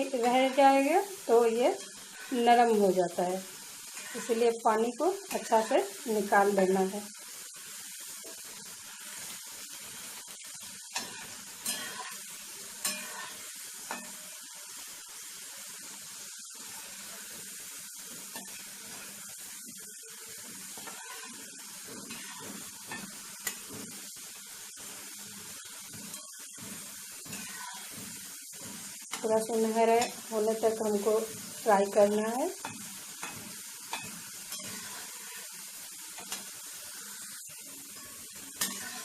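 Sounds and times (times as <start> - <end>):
potatoes sizzling in hot oil: 0.0 - 39.0.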